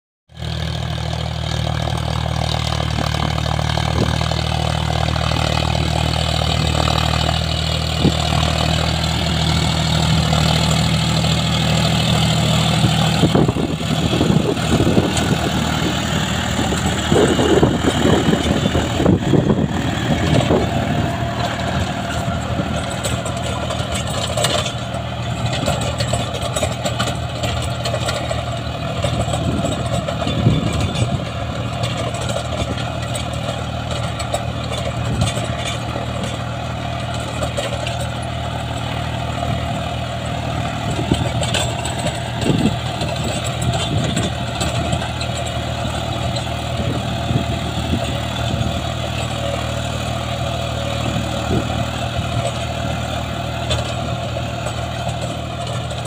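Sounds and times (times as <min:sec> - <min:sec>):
tractor diesel engine running: 0:00.3 - 0:56.0.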